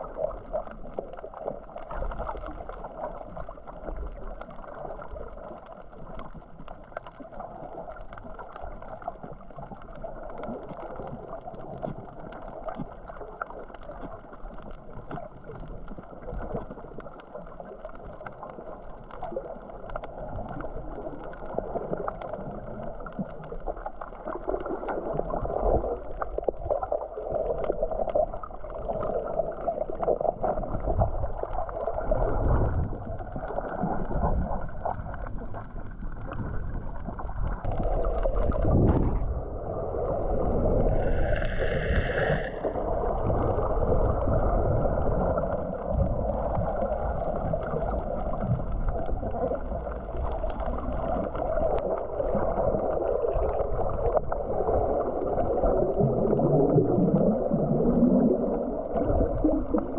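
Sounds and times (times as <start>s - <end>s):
underwater water rushing: 0.0s - 59.9s.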